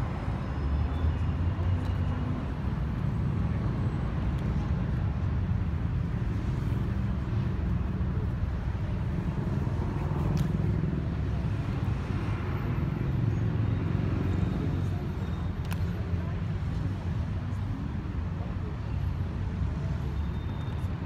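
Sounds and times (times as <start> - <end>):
distant traffic: 0.0 - 21.0
low city rumble: 0.0 - 21.0
faint voices: 1.2 - 21.0.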